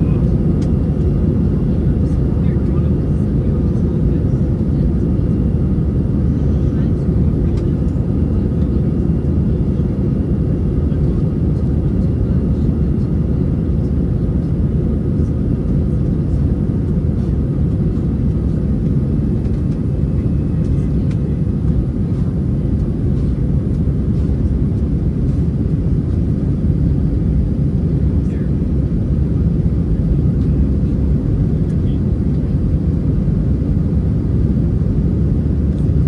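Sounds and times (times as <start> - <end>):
jet engine cabin rumble: 0.0 - 36.0.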